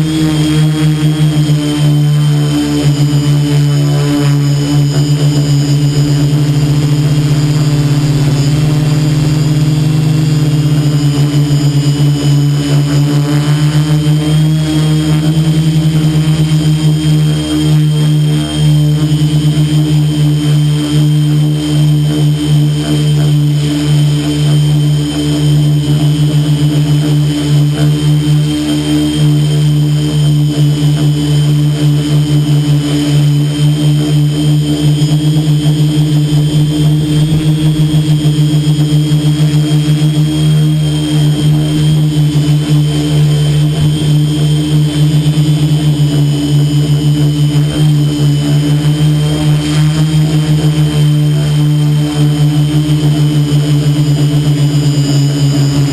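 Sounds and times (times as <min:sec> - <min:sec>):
drone motors humming: 0:00.0 - 0:55.9.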